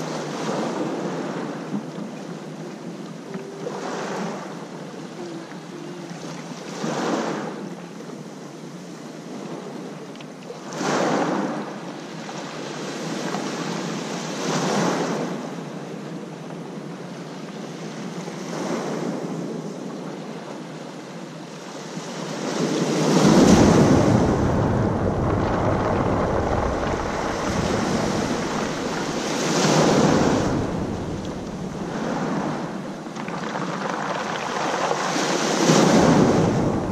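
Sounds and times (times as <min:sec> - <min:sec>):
waves breaking on shore: 0:00.0 - 0:36.9
wind rumble on microphone: 0:00.0 - 0:36.9.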